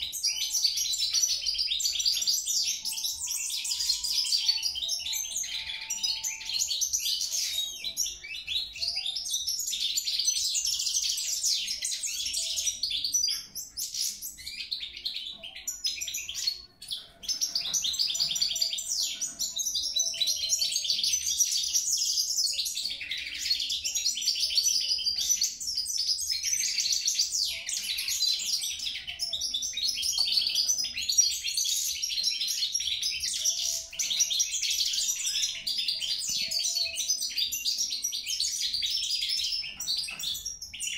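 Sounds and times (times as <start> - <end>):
finch singing: 0.0 - 40.9.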